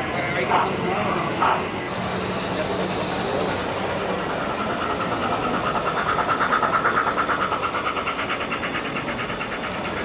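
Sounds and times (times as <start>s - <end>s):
model steam locomotive chuffing: 0.0s - 10.0s.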